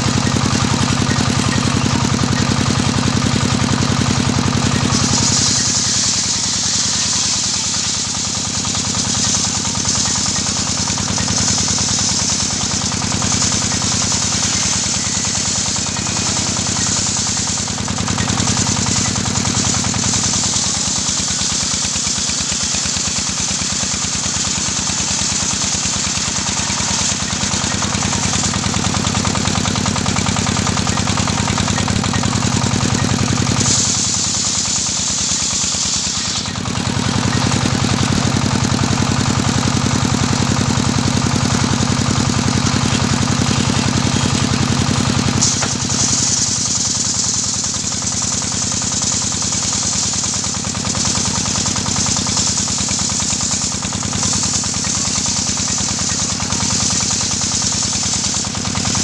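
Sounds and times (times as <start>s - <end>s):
diesel engine chugging: 0.0s - 59.0s
saw blade cutting wood: 0.0s - 59.0s.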